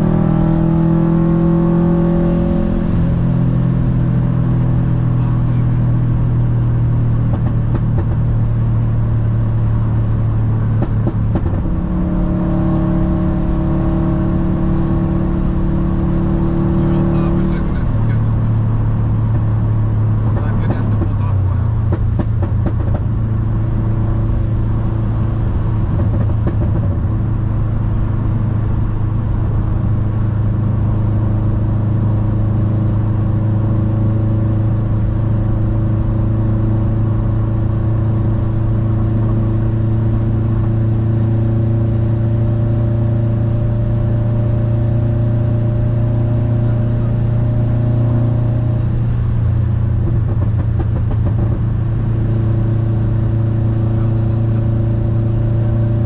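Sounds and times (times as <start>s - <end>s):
car engine droning: 0.0s - 56.0s
road noise: 0.0s - 56.0s.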